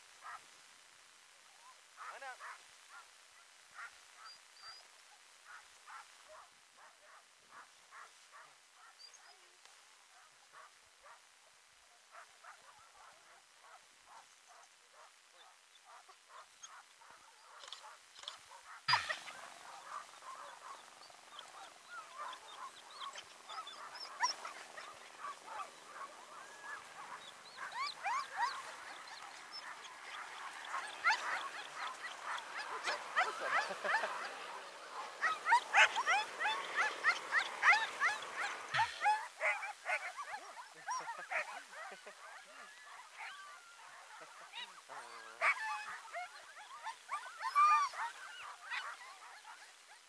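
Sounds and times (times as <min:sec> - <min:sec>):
sled dogs yipping and yelping: 0:01.6 - 0:50.0.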